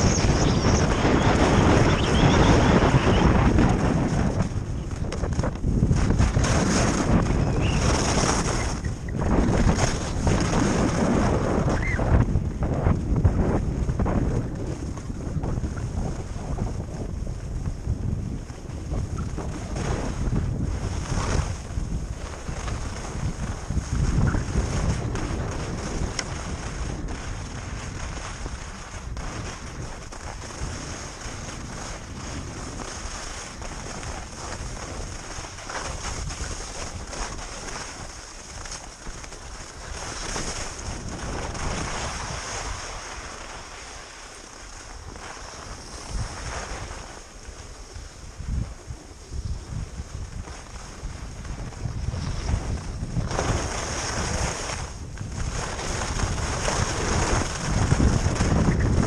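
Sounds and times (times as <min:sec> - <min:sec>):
ski scrapes: 0:00.0 - 0:12.2, 0:18.5 - 0:59.0
skis hissing over snow: 0:00.0 - 0:12.2, 0:18.4 - 0:59.0
wind buffeting microphone: 0:00.0 - 0:59.0.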